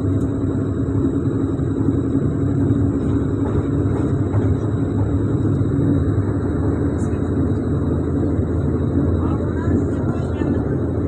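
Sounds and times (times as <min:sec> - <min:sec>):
low hum: 0:00.0 - 0:11.0
train wheels rumbling: 0:00.0 - 0:11.0.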